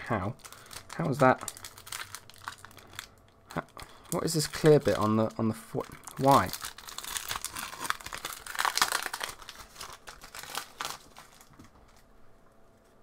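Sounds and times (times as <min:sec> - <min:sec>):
foil wrapper crinkling: 0:00.0 - 0:12.1.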